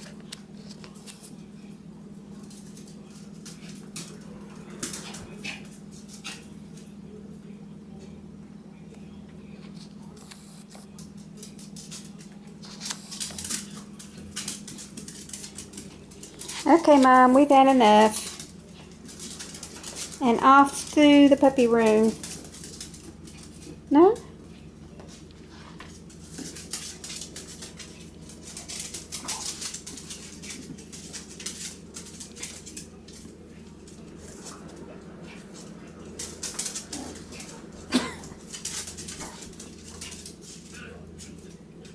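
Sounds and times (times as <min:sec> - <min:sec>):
steady low hum: 0:00.0 - 0:41.9
dog claws clicking on tile floor: 0:02.3 - 0:07.0, 0:09.7 - 0:41.9.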